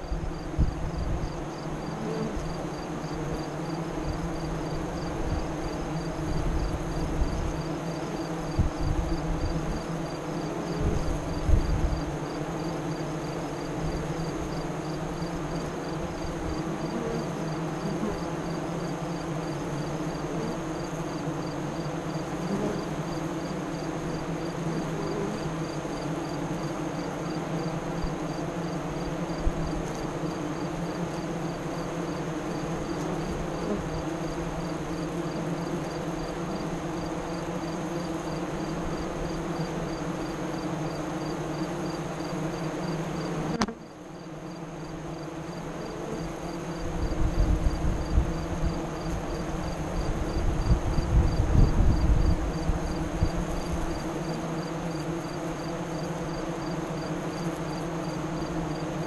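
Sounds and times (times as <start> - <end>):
honey bees buzzing: 0.0 - 59.0.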